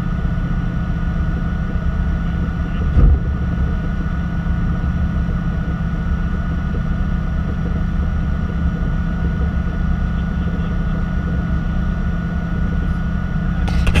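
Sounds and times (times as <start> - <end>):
car engine idling: 0.0 - 14.0
thin steady whine: 0.0 - 14.0.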